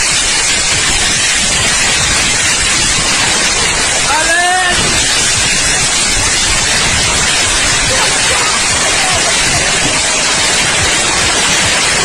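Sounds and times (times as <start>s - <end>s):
storm wind on microphone: 0.0s - 12.0s.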